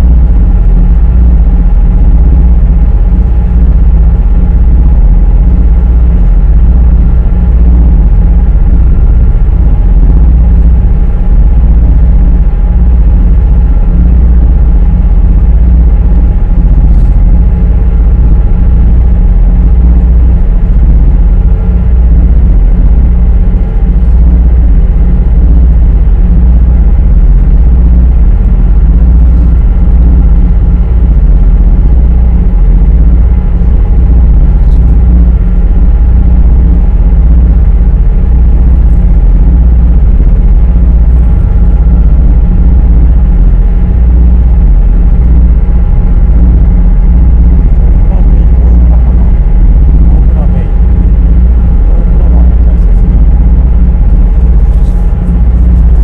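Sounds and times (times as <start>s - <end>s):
boat engines droning: 0.0s - 56.0s.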